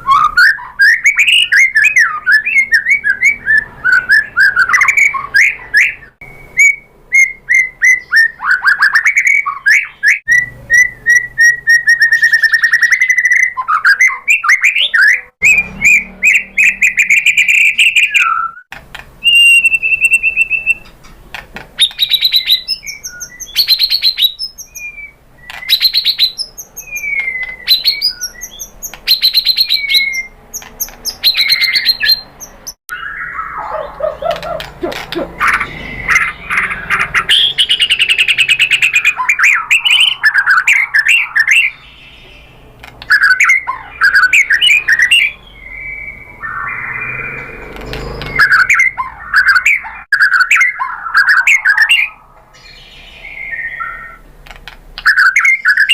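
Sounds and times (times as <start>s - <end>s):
songbird singing whistles and trills: 0.0s - 21.0s, 21.8s - 54.2s, 55.0s - 55.9s.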